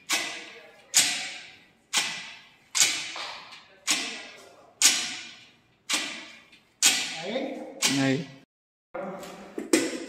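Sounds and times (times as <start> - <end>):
gym machine metallic clangs: 0.0 - 8.3.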